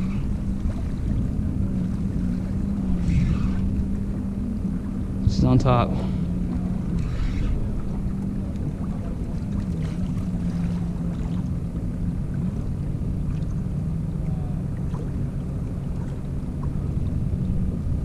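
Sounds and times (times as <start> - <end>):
boat motor humming: 0.0 - 18.0
wind on microphone: 0.0 - 18.0.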